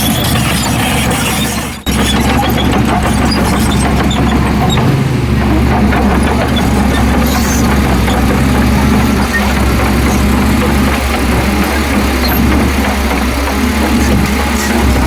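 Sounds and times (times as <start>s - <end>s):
diesel machinery engine: 0.0s - 15.0s
rattling and clatter: 0.0s - 15.0s.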